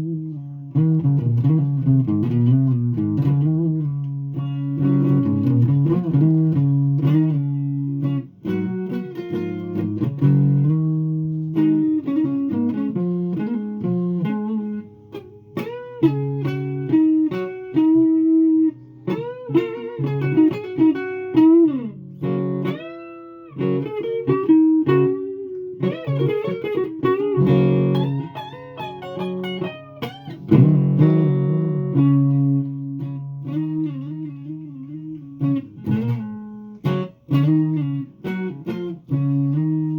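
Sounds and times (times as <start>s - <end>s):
solo guitar playing: 0.0s - 39.9s.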